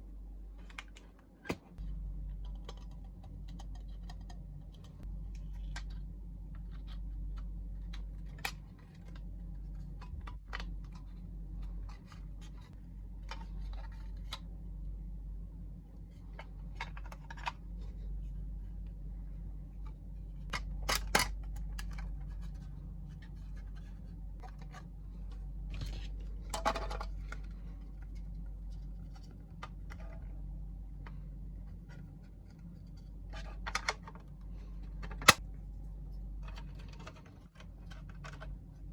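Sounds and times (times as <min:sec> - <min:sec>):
low hum: 0:00.0 - 0:38.9.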